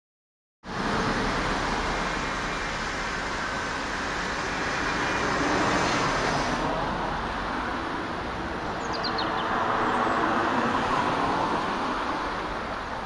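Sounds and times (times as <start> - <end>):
road traffic passing: 0.6 - 13.0.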